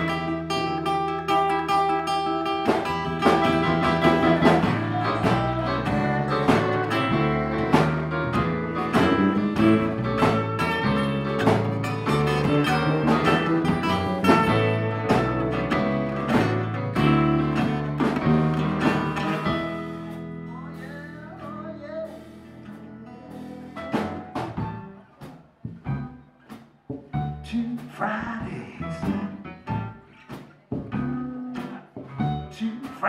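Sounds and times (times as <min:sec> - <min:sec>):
electric bass: 0:00.0 - 0:26.3, 0:26.9 - 0:30.1, 0:30.7 - 0:32.8
acoustic guitar lead line: 0:00.0 - 0:33.0
drums steady beat: 0:00.0 - 0:33.0.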